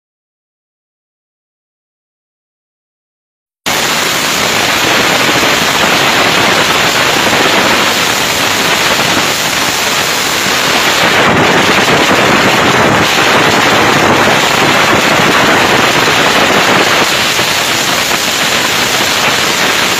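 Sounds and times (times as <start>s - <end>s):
motorcycle engine and wind rush: 3.7s - 19.9s.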